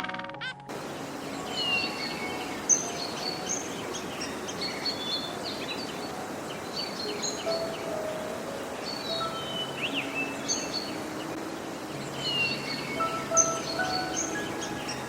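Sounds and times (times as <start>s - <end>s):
small birds chirping: 0.7s - 15.0s
steady background hiss: 0.7s - 15.0s.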